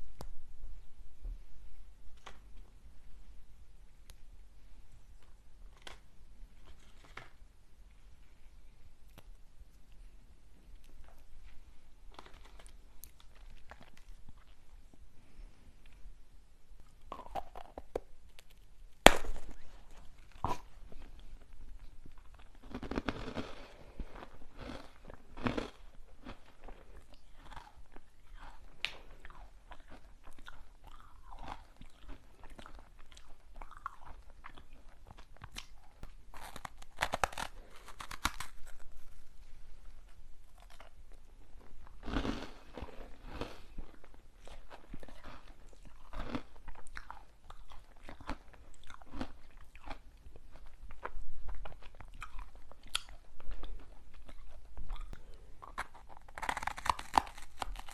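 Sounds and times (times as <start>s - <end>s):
crunchy sweets being eaten: 9.0s - 16.2s, 16.8s - 57.9s.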